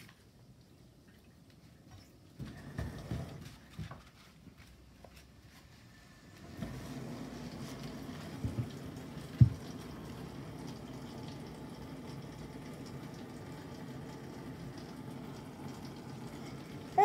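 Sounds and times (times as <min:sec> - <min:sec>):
dishwasher humming with water swishing: 0:00.0 - 0:17.0.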